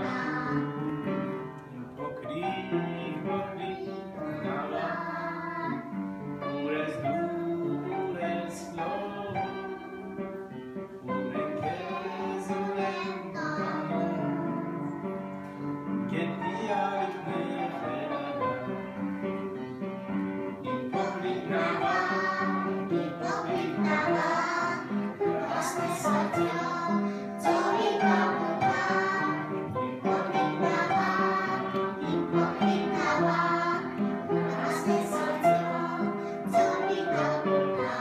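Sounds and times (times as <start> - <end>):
children singing together: 0.0 - 10.1, 11.0 - 15.3, 16.1 - 38.0.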